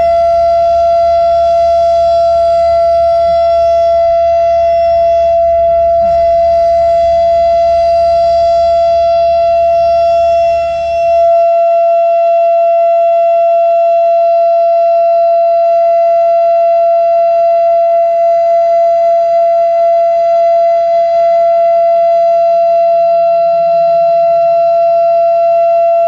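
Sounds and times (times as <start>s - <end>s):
warning siren steady tone: 0.0s - 26.0s.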